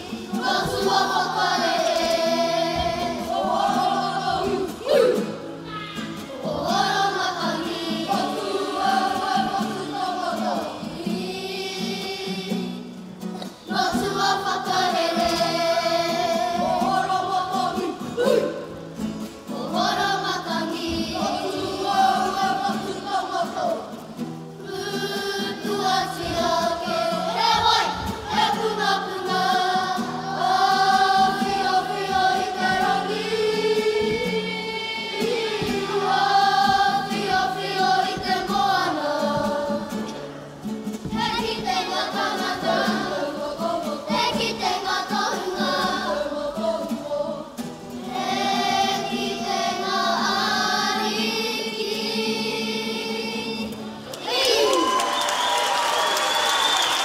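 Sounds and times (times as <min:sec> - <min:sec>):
children singing in chorus: 0:00.0 - 0:05.4, 0:06.0 - 0:55.0.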